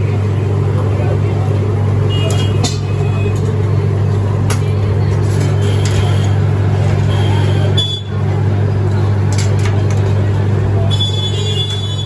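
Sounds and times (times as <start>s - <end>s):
loud mechanical hum: 0.0s - 12.0s.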